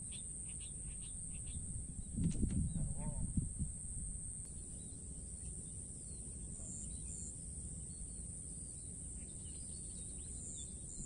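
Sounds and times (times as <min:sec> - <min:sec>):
faint bird chirps: 0:00.0 - 0:03.3, 0:04.4 - 0:11.0
high-pitched insect drone: 0:00.0 - 0:11.0.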